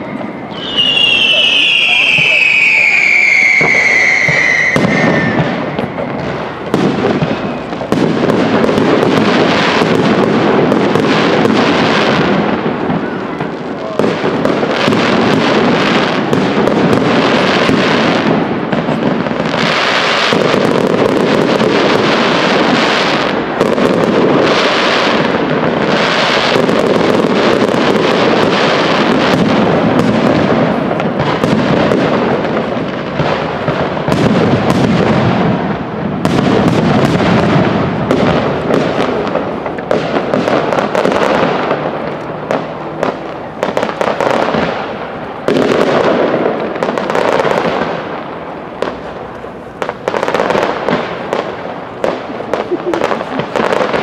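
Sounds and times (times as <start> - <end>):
fireworks bursts and crackling: 0.0 - 54.0.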